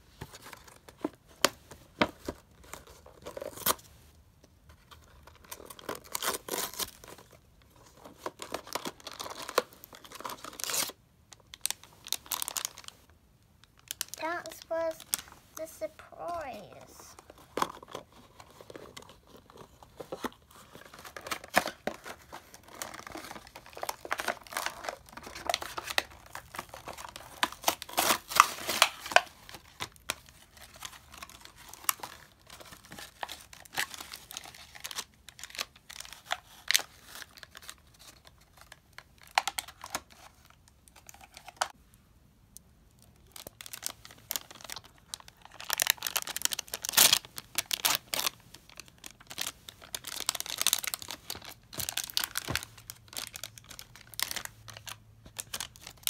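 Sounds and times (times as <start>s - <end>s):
packaging crinkling and tearing: 0.3s - 3.9s, 4.8s - 41.8s, 43.0s - 56.0s.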